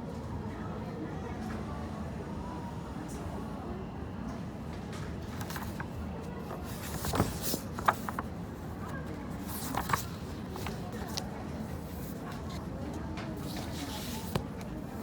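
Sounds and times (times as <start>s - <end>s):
murmur of distant chatter: 0.0s - 15.0s.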